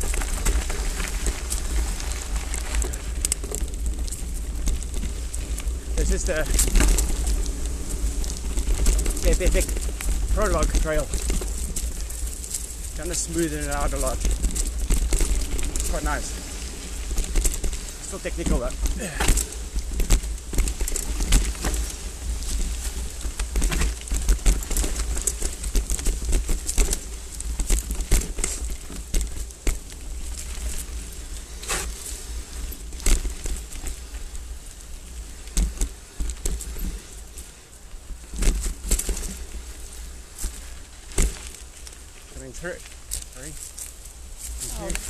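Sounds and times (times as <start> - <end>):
bike knocking and clattering on rocks: 0.0 - 45.0.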